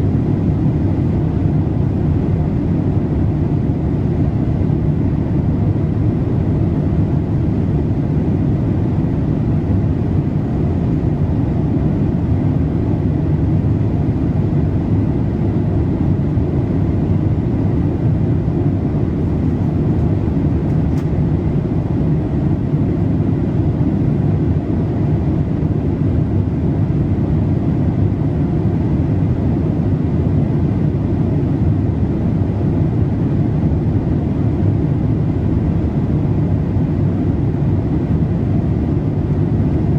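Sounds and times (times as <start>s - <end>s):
airplane cabin airflow and engine noise: 0.0s - 39.9s.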